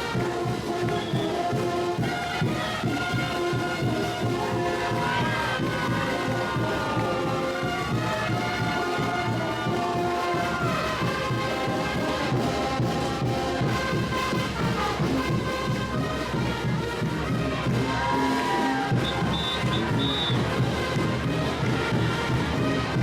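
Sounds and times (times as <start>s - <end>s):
brass band sliding notes: 0.0s - 23.0s
steady drumming: 0.0s - 23.0s.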